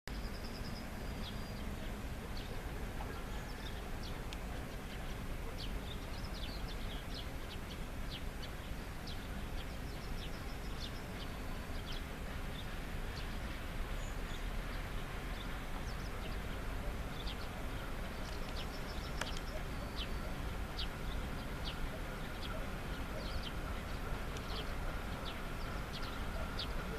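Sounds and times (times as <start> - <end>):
small birds chirping: 0.1 - 26.9.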